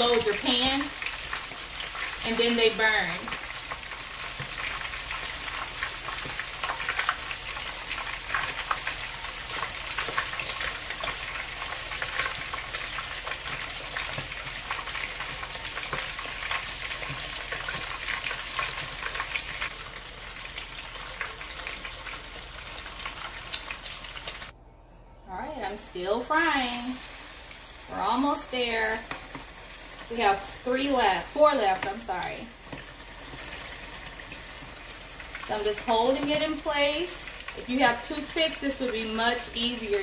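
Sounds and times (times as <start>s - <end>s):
oil sizzling and popping: 0.0s - 24.5s, 26.2s - 40.0s.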